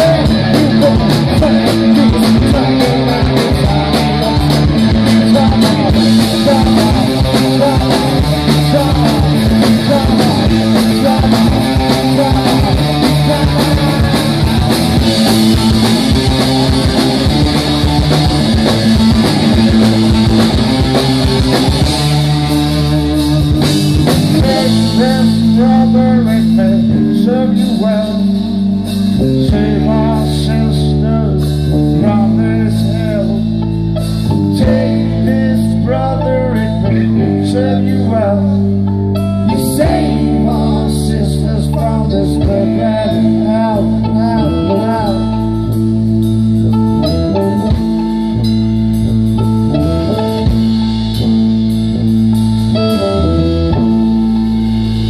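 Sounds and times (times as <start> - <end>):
person singing: 0.0 - 33.6, 34.2 - 45.8
rock band playing: 0.0 - 55.0.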